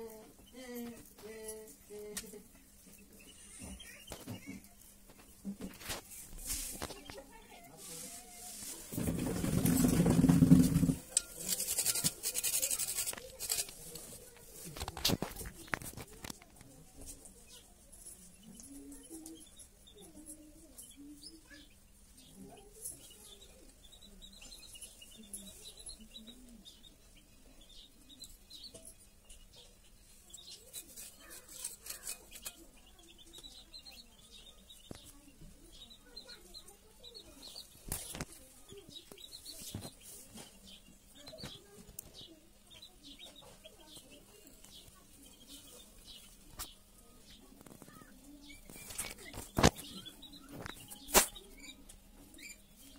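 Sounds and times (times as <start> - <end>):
faint birds chirping: 0.0 - 52.9.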